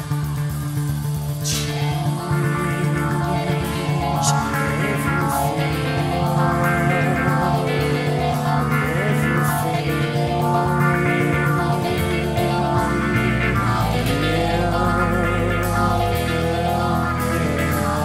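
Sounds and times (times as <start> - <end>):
deep sustained bass note: 0.0 - 18.0
rock band playing: 0.0 - 18.0
man singing long notes: 1.4 - 18.0.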